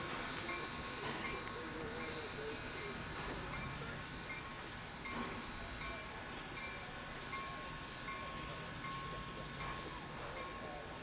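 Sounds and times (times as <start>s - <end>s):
steam hissing from locomotive: 0.0s - 11.0s.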